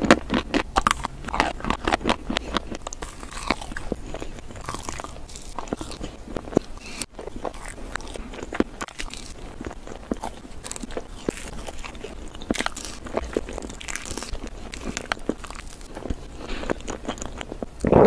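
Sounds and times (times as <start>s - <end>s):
person chewing with wet mouth sounds: 0.0s - 18.0s.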